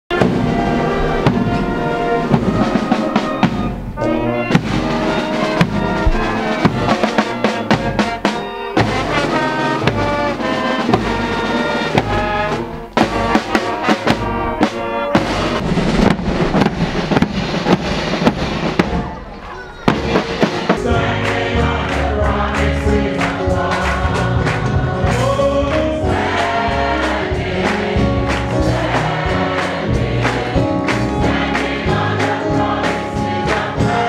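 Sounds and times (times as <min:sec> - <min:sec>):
drum beats: 0:00.1 - 0:34.0
trumpets and trombones playing: 0:00.1 - 0:34.0.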